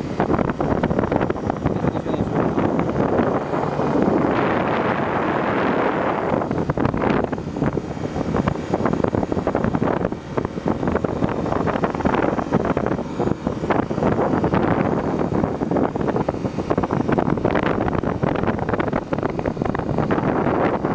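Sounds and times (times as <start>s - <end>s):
motorcycle engine: 0.0s - 20.9s
wind buffeting microphone: 0.0s - 20.9s.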